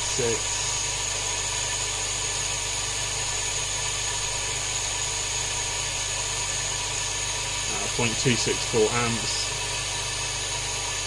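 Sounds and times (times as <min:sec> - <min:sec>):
air pump humming: 0:00.0 - 0:11.0.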